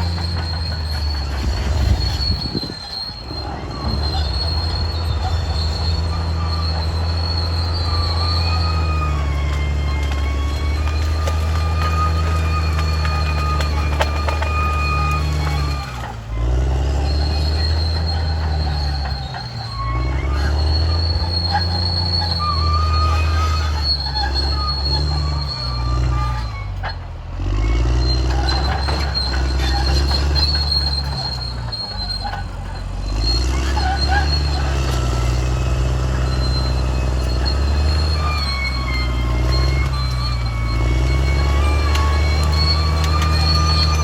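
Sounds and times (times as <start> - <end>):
bulldozer diesel engine: 0.0 - 44.0
high metallic squeal: 0.0 - 44.0.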